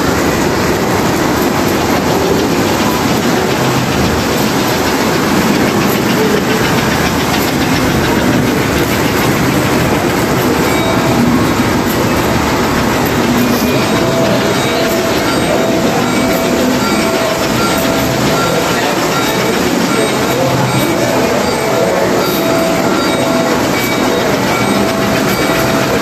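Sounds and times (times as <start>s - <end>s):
toy train wheels clattering: 0.0s - 26.0s.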